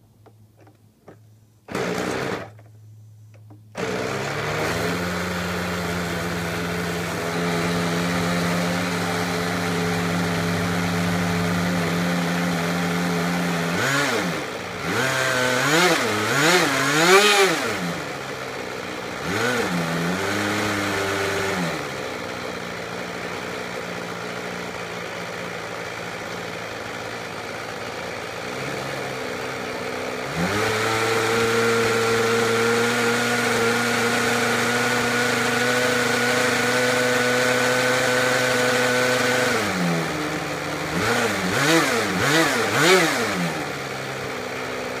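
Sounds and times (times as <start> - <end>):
model engine idling and revving: 1.0 - 45.0.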